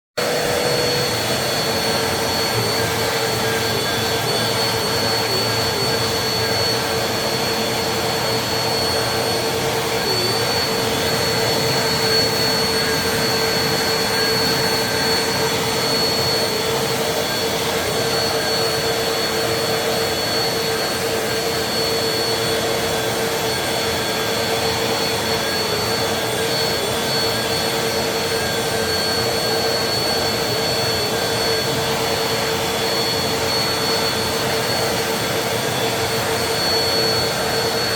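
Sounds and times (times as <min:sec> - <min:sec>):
vacuum cleaner running: 0:00.2 - 0:37.9.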